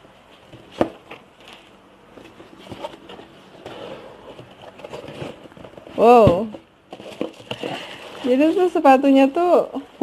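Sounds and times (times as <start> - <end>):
cardboard and paper rustling: 0.4 - 9.6.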